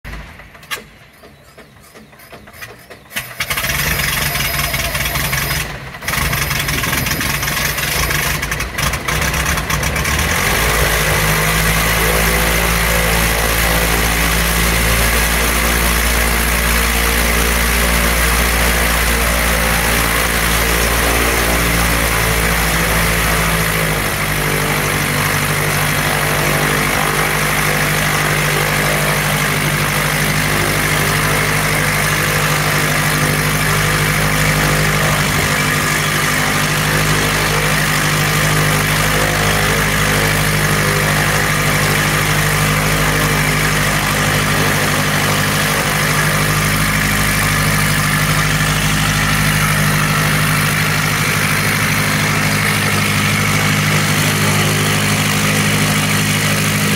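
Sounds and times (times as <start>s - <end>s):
plane engine idling: 0.1s - 56.9s.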